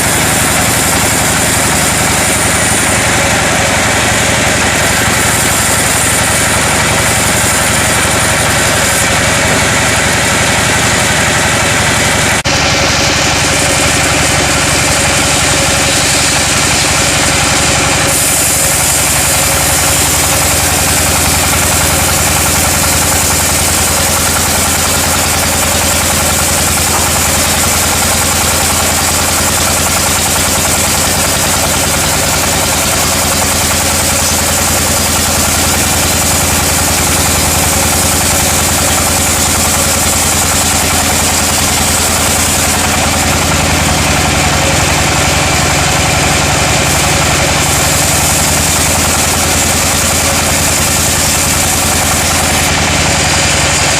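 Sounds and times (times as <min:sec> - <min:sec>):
high machinery hiss: 0:00.0 - 0:53.9
sawmill machinery hum: 0:00.0 - 0:53.9.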